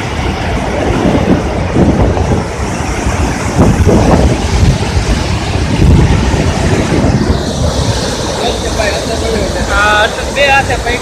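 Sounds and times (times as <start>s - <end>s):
rushing floodwater: 0.0s - 11.0s.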